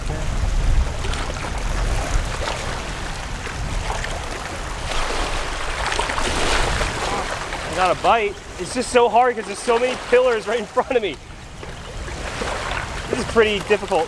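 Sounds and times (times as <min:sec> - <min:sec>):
small waves washing: 0:00.0 - 0:14.0.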